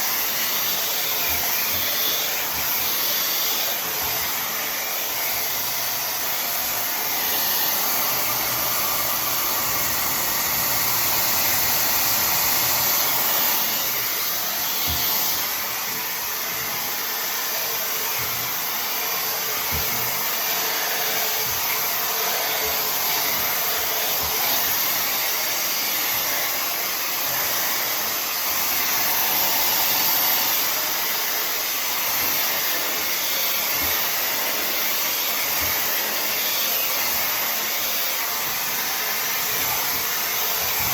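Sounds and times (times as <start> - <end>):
hair dryer blowing air: 0.0 - 40.9.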